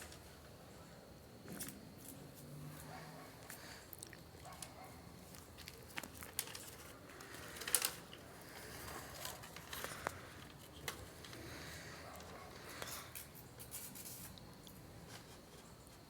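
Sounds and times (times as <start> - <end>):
crinkly rustling: 2.8 - 16.0.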